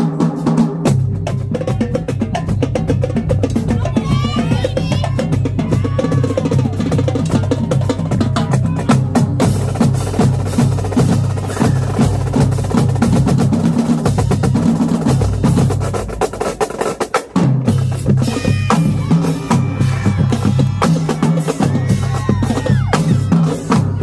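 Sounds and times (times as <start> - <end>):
marching drumline playing: 0.0 - 24.0.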